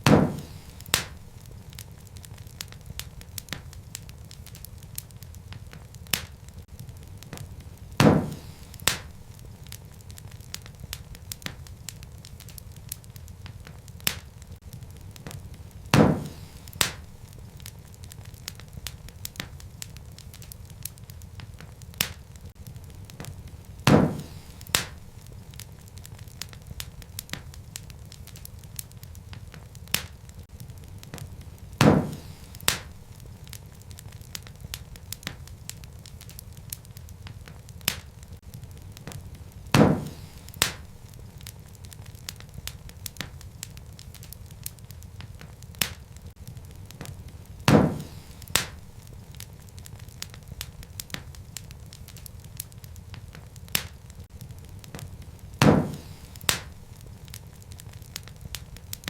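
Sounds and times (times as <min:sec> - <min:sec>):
loud pops from fire: 0:00.0 - 0:59.0
wood fire crackling: 0:00.0 - 0:59.0.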